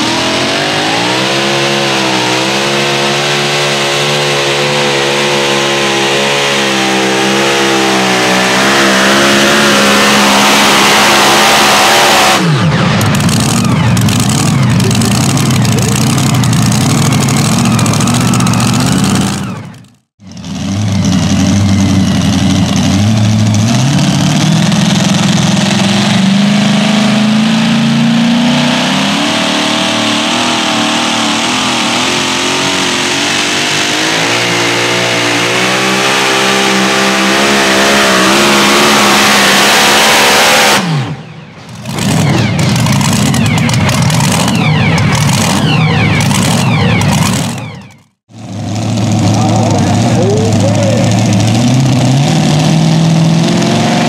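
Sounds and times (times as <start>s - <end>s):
engine running rough: 0.0s - 54.0s
pulling truck engine at full throttle: 0.0s - 54.0s.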